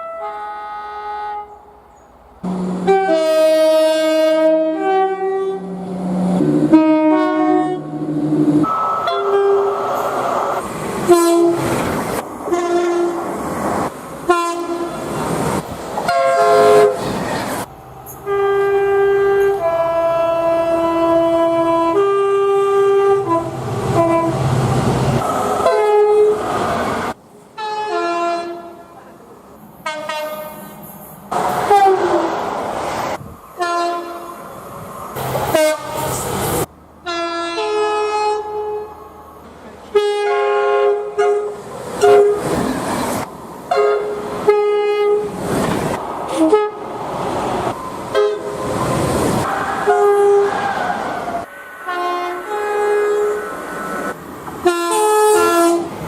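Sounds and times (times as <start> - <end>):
train horns: 0.0 - 11.9, 12.5 - 13.4, 14.2 - 15.3, 16.0 - 24.6, 25.2 - 29.2, 29.8 - 32.4, 33.6 - 34.4, 35.4 - 42.6, 43.7 - 45.4, 46.3 - 47.0, 48.1 - 56.0
trains running past: 0.0 - 56.0.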